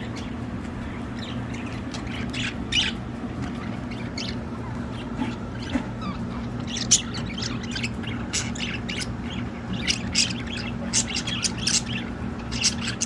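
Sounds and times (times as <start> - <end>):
budgerigars chirping and squawking: 0.0 - 13.0
steady low hum: 0.0 - 13.0.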